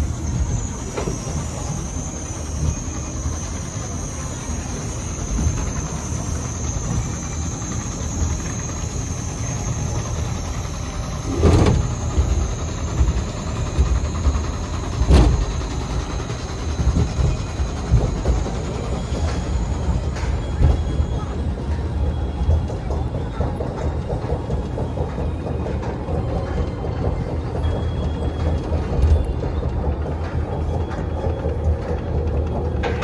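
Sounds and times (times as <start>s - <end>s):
roller coaster rumbling on track: 0.0s - 33.0s.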